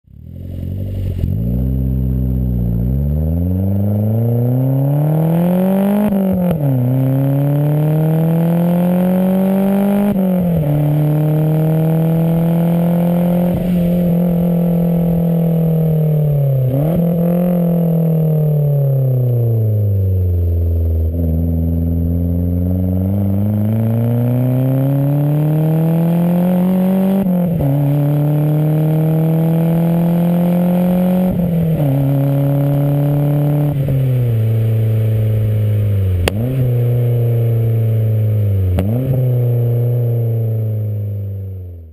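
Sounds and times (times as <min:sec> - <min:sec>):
car engine accelerating through gears: 0:00.1 - 0:41.9.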